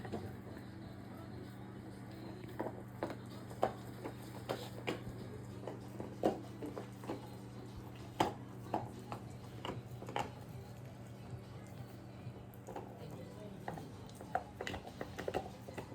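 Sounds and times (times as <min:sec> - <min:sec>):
dog teeth gnawing on chew toy: 0:02.1 - 0:15.9.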